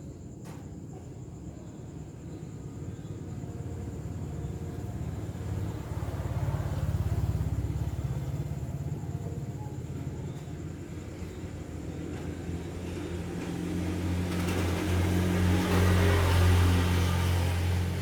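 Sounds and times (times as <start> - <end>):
vehicle engine hum: 2.8 - 18.0.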